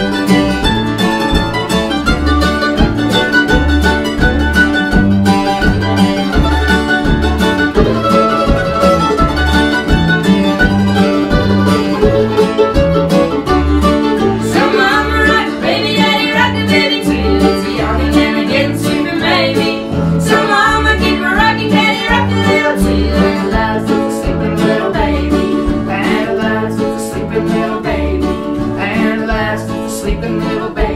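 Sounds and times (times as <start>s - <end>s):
bowed fiddle: 0.0s - 26.9s
acoustic guitar strums: 0.0s - 30.9s
mandolin picking: 0.0s - 30.9s
upright bass: 0.0s - 30.9s.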